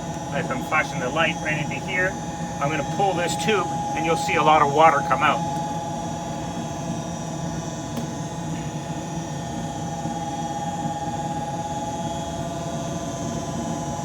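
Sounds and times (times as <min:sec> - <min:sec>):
steady whine: 0:00.0 - 0:11.8
furnace motor hum: 0:00.0 - 0:14.0.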